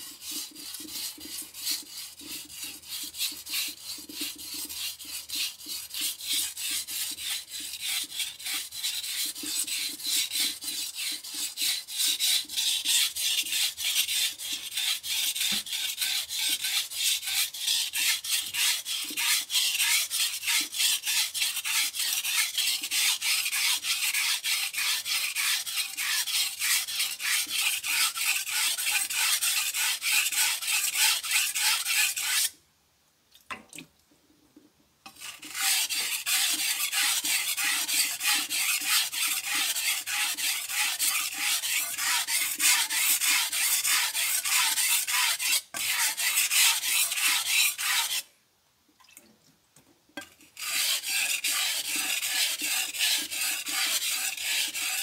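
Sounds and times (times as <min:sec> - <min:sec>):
knife scraping on whetstone: 0:00.0 - 0:32.5, 0:35.1 - 0:48.3, 0:50.2 - 0:55.0.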